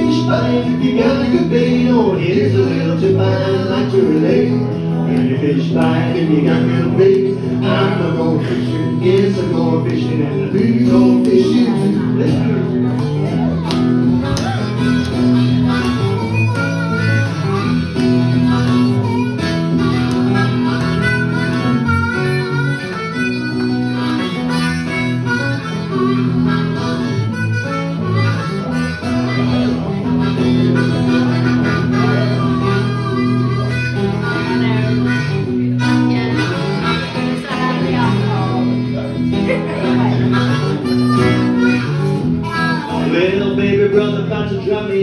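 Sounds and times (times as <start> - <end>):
harmonica solo: 0.0 - 44.3
acoustic guitar: 0.0 - 45.0.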